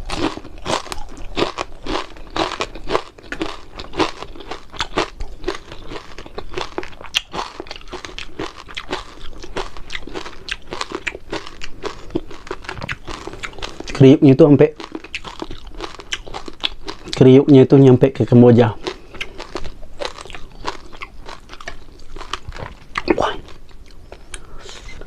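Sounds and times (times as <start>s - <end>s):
crunching and chewing fried food: 0.0s - 25.0s.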